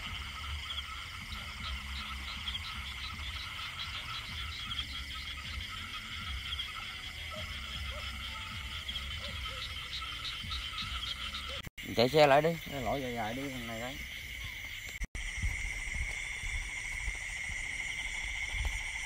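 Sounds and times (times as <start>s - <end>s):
frogs calling: 0.0s - 19.0s.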